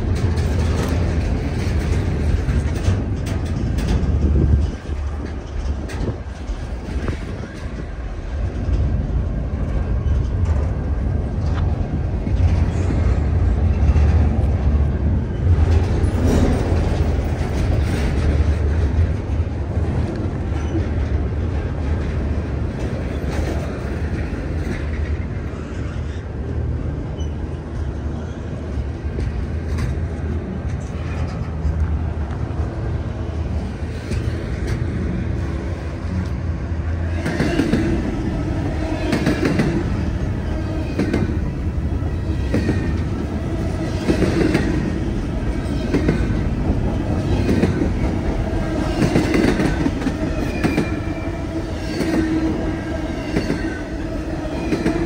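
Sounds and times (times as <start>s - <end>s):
train wheels clacking: 0.0s - 26.2s, 33.9s - 55.0s
train rumbling: 0.0s - 55.0s.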